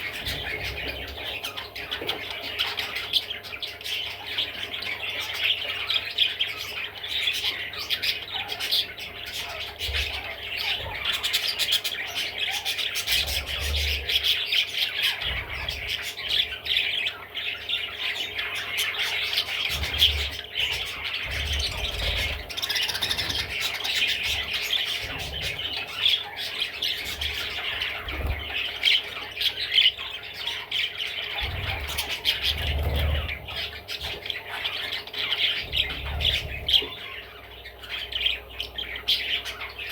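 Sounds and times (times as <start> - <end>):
budgerigar chattering: 4.1 - 39.9.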